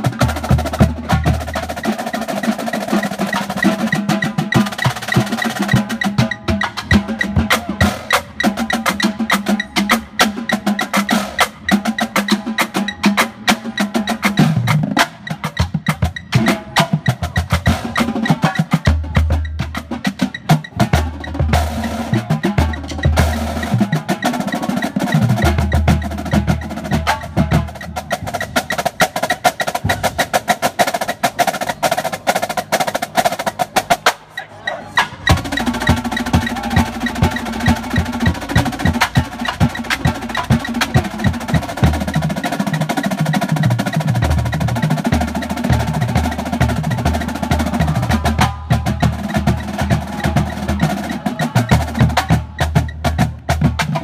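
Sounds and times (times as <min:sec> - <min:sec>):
fast snare drum strokes: 0:00.0 - 0:34.2, 0:35.0 - 0:54.0.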